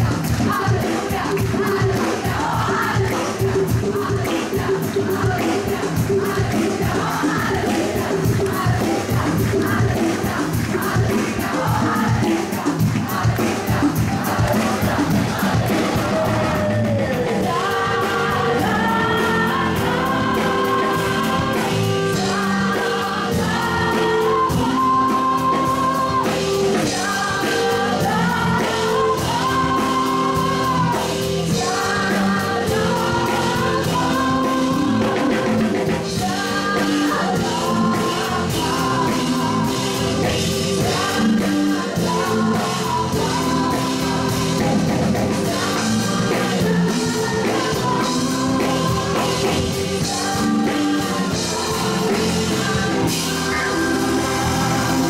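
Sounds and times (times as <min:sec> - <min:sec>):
band with guitars: 0:00.0 - 0:55.0
choir singing: 0:00.0 - 0:55.0
woman singing lead: 0:00.0 - 0:55.0.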